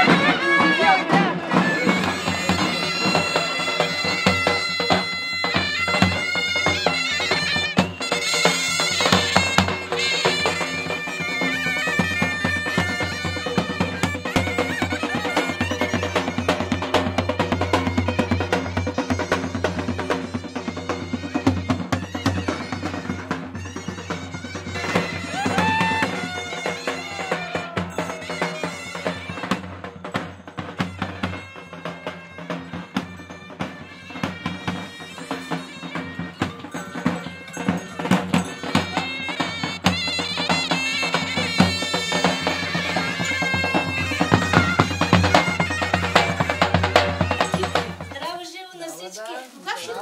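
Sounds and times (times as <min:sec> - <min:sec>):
bagpipe playing folk melody: 0:00.0 - 0:48.4
drums beating: 0:00.0 - 0:50.0.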